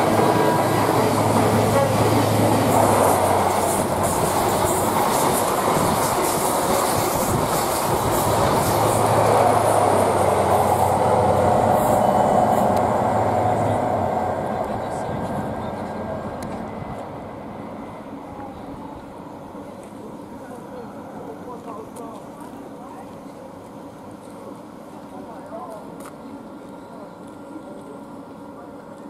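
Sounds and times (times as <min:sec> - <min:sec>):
train wheels rumbling on rails: 0:00.0 - 0:26.7.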